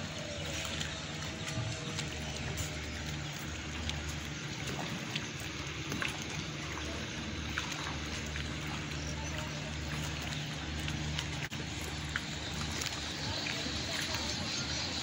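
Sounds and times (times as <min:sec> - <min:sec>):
light splashes: 0:00.0 - 0:15.0
low steady hum: 0:00.0 - 0:15.0
waves lapping against jetty: 0:00.0 - 0:15.0.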